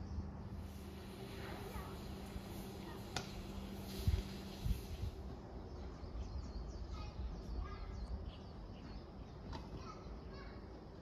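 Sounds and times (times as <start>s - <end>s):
birds chirping: 0.0s - 11.0s
faint steady hum: 0.0s - 11.0s
low outdoor rumble: 0.0s - 11.0s.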